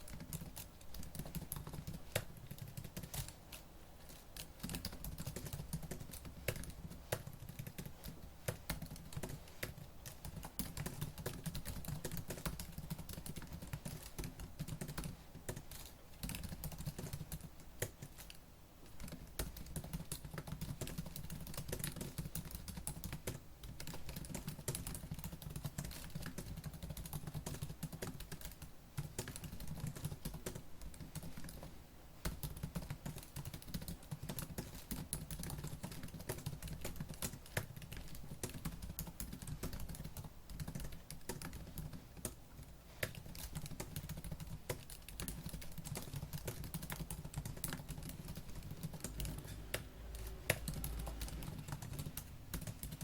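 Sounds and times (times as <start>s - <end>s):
fast typing on keyboard: 0.0s - 53.0s.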